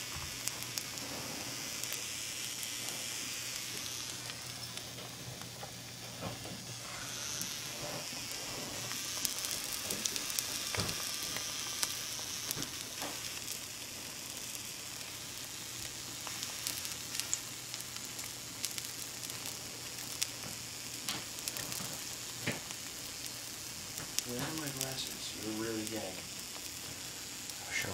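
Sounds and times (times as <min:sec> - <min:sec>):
egg sizzling in a pan: 0:00.0 - 0:27.9.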